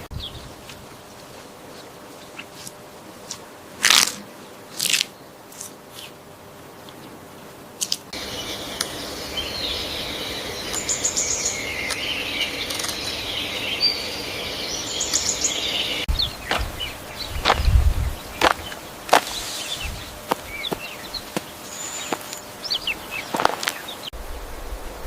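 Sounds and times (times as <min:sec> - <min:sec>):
small birds chirping: 0:00.0 - 0:03.4, 0:04.4 - 0:06.2, 0:06.8 - 0:24.8
outdoor background noise: 0:00.0 - 0:25.0.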